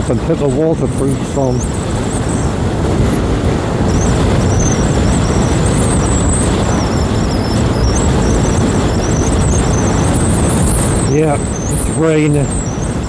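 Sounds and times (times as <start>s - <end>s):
motorbike engine: 0.0s - 13.0s
wind rush: 0.0s - 13.0s.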